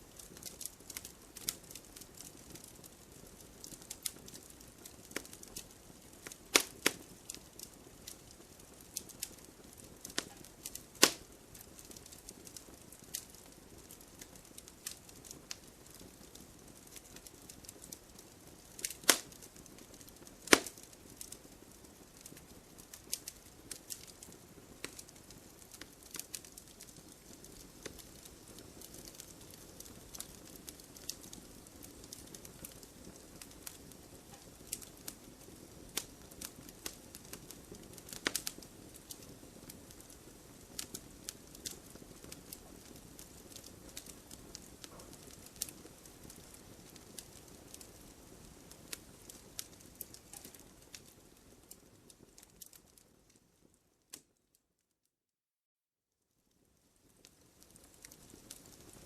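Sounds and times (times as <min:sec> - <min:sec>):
firewood crackling: 0:00.0 - 0:54.5, 0:56.5 - 0:59.0.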